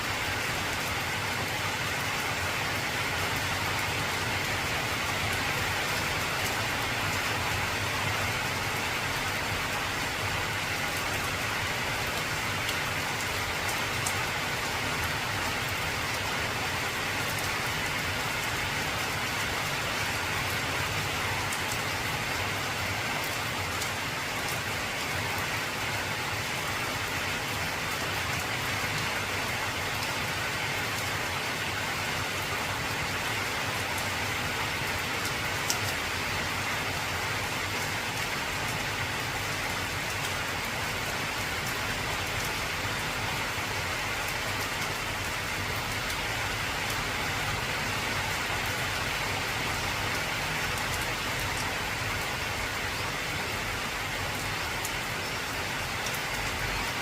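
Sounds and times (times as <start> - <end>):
rain drumming on a metal roof: 0.0 - 57.0.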